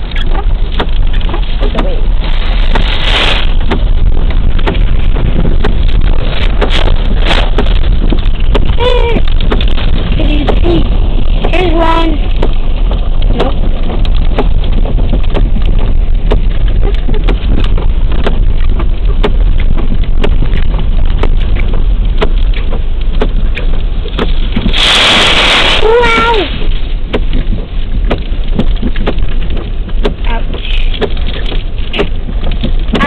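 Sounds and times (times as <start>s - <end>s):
pounding surf: 0.0s - 33.0s
wind buffeting microphone: 0.0s - 33.0s.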